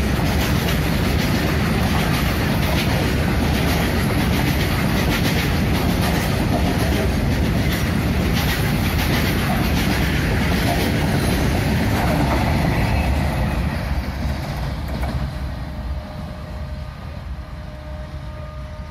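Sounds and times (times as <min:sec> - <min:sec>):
train wheels clattering: 0:00.0 - 0:15.6
train rumble: 0:00.0 - 0:18.9.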